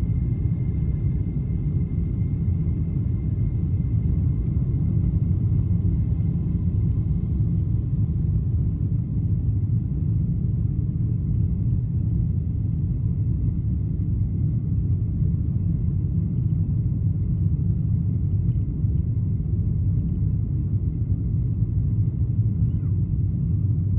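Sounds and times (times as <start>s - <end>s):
airplane cabin rumble: 0.0s - 23.9s.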